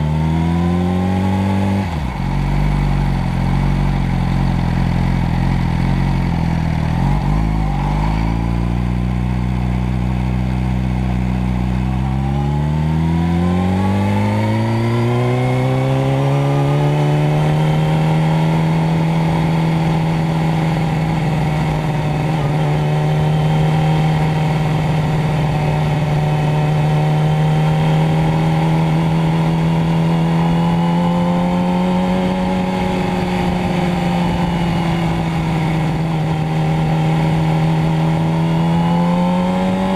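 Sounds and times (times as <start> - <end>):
motorcycle engine revving up: 0.0 - 39.9.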